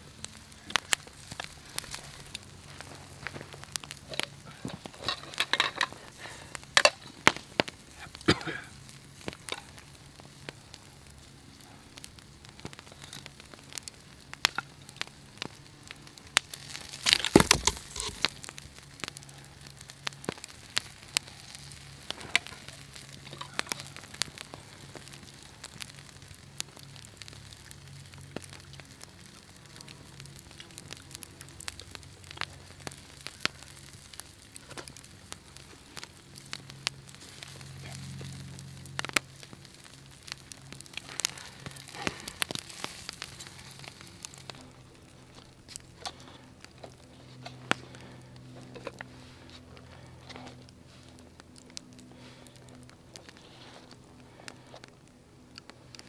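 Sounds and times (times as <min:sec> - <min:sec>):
campfire crackling and popping: 0:00.0 - 0:56.0
meat sizzling on grill: 0:00.2 - 0:46.4.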